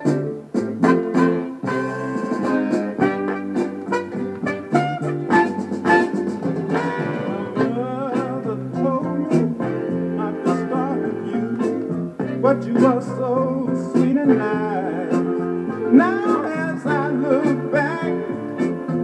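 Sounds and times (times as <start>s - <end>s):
soul record with guitar and drums: 0.0s - 19.0s.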